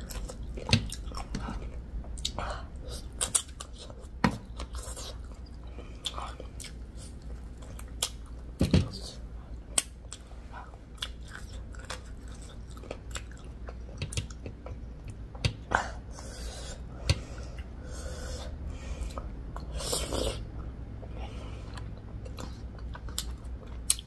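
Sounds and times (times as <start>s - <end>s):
person chewing food: 0.0s - 8.6s, 9.5s - 24.0s.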